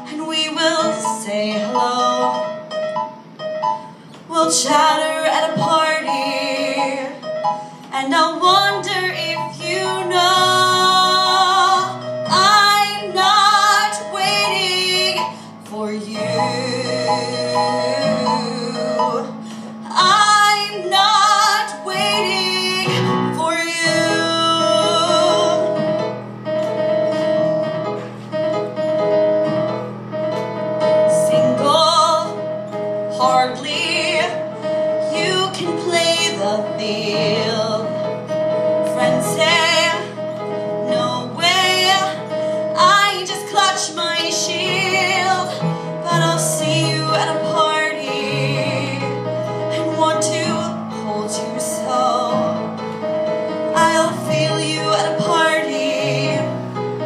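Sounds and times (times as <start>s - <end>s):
woman singing with vibrato: 0.0s - 2.6s, 4.3s - 25.8s, 31.1s - 32.4s, 33.1s - 38.1s, 38.8s - 40.2s, 40.8s - 52.6s, 53.7s - 56.6s.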